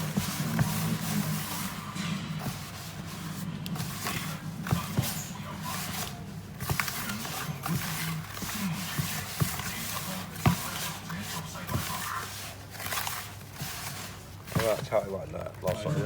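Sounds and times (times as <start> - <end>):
hands mixing ingredients in bowl: 0.0 - 16.0.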